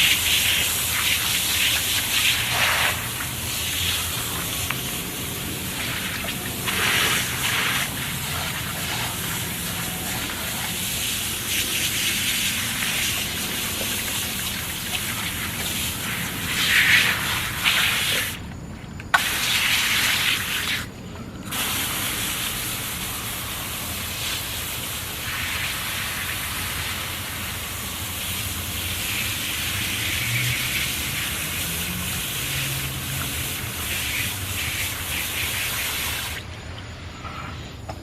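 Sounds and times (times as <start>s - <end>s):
water spraying: 0.0s - 36.6s.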